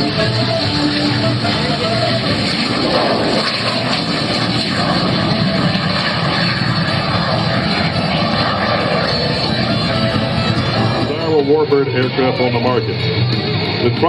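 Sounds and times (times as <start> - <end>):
propeller plane engine flying past: 0.0 - 14.0.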